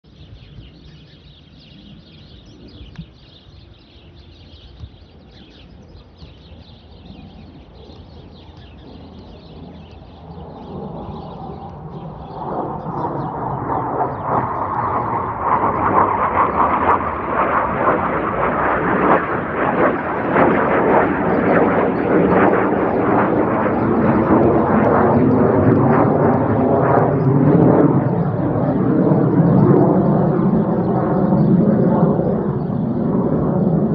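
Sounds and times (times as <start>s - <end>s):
fighter jet rumble overhead: 0.3s - 33.9s.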